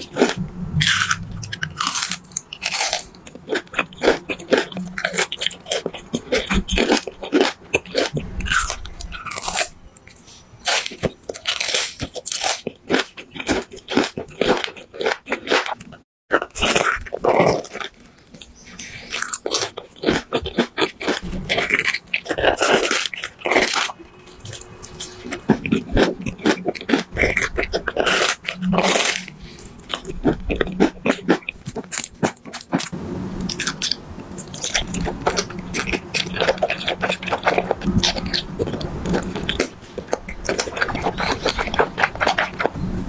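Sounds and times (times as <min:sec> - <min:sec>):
chewing gummy candy: 0:00.0 - 0:32.9, 0:33.5 - 0:42.8.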